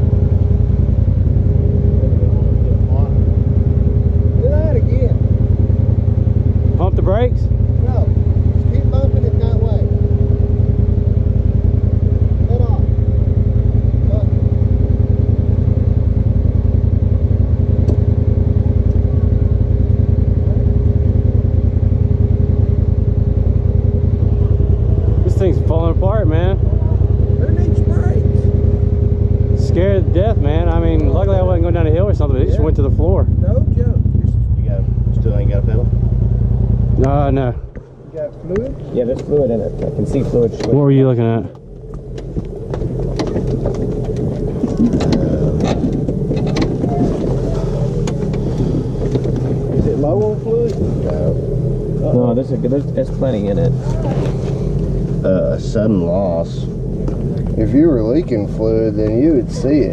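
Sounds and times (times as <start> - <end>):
engine idling with low pulsing: 0.0 - 59.9.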